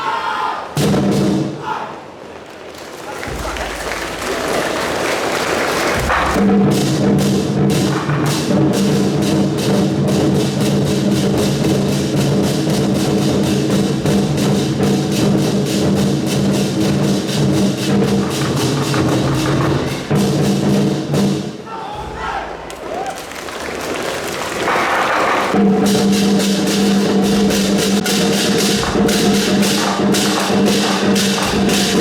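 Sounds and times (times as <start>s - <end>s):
drum and cymbal beat: 3.3s - 32.0s.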